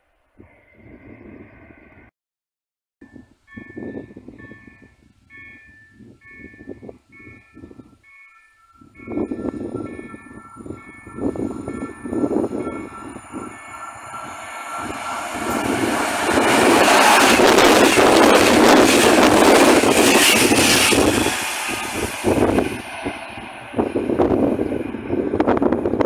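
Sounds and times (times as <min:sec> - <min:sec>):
train passing at speed: 0:03.1 - 0:26.0.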